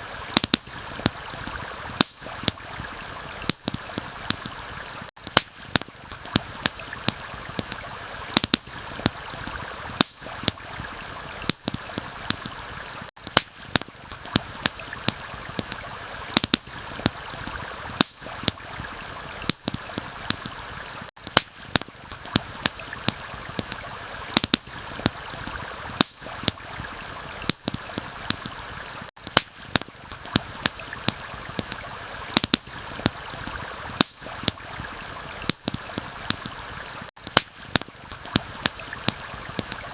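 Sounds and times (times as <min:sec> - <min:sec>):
campfire crackling: 0:00.0 - 0:39.9
stream rushing: 0:00.0 - 0:39.9.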